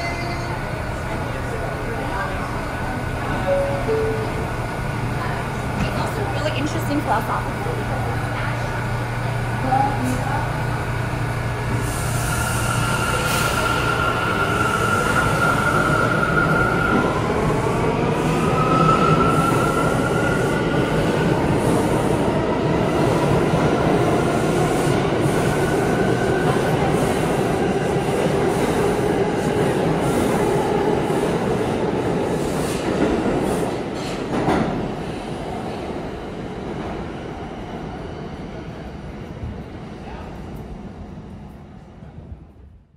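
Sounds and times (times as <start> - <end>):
subway train motors whining: 0.0 - 42.9.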